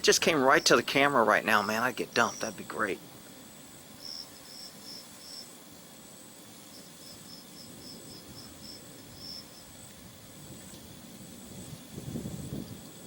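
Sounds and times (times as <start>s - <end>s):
crickets chirping: 0.0s - 13.0s
faint low wind rumble: 0.0s - 13.0s.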